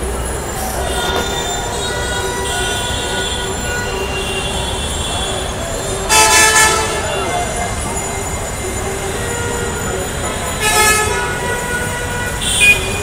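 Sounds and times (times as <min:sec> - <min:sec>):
metro train wheels squealing: 0:00.0 - 0:11.9
train rumbling: 0:00.0 - 0:12.4.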